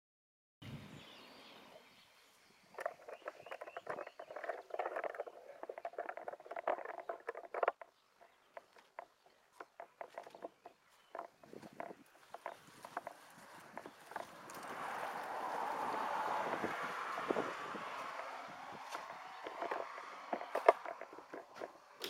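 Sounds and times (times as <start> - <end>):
footsteps on gravel: 2.8 - 22.0.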